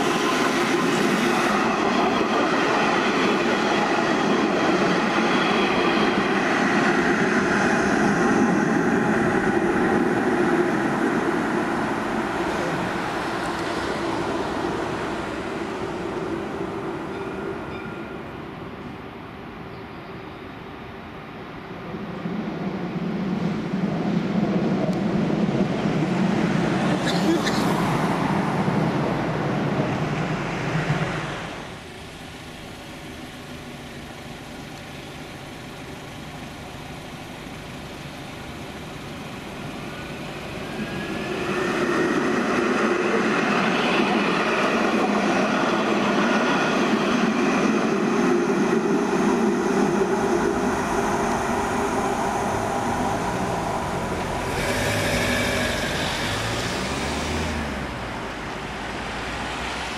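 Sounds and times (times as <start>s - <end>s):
road traffic: 0.0s - 59.9s
tram electric whine: 0.0s - 59.9s
trams running on rails: 0.0s - 59.9s.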